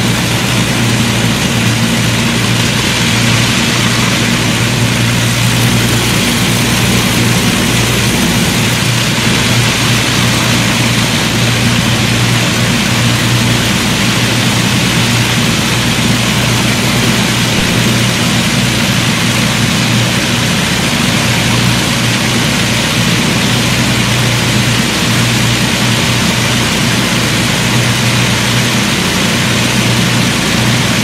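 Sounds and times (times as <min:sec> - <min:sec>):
propeller aircraft engines droning: 0:00.0 - 0:31.0.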